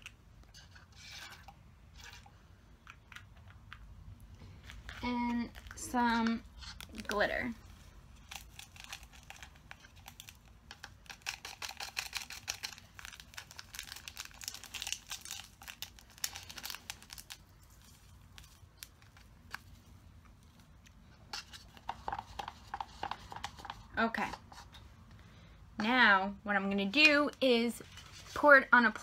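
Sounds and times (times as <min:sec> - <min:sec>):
plastic cup crinkling: 0:00.0 - 0:24.7
stick stirring slime: 0:00.0 - 0:24.8.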